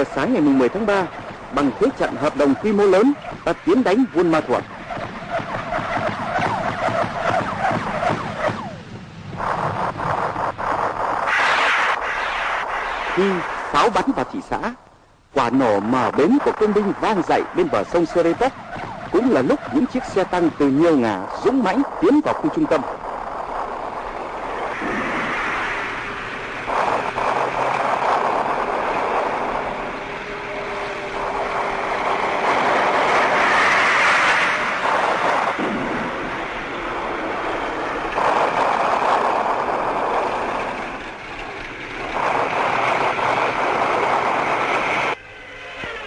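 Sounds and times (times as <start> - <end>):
tank engine and tracks: 0.0 - 46.0.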